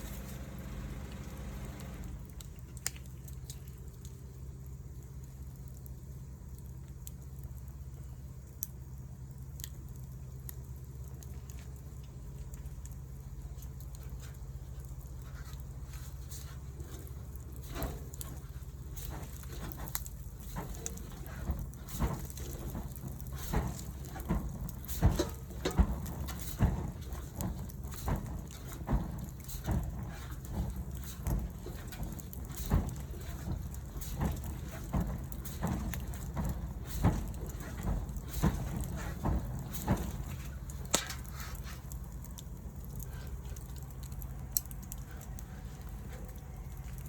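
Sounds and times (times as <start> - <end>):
low steady rumble: 0.0 - 47.0
wood fire crackling and popping: 0.0 - 47.0.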